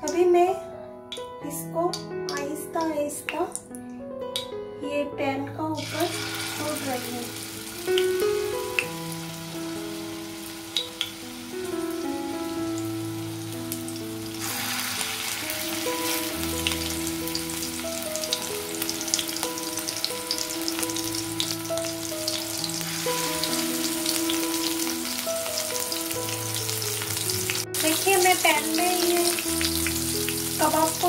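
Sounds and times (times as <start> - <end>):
background music with melody: 0.0 - 31.0
oil sizzling and popping: 5.8 - 31.0.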